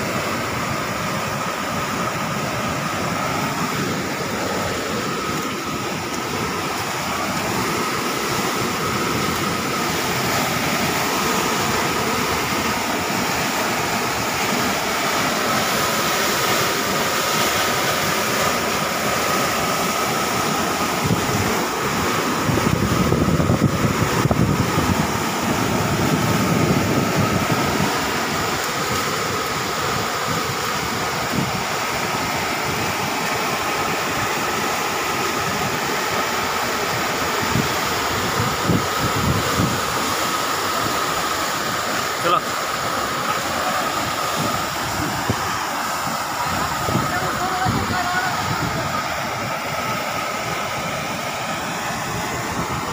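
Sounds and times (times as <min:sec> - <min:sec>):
roar of rushing river water: 0:00.0 - 0:52.9.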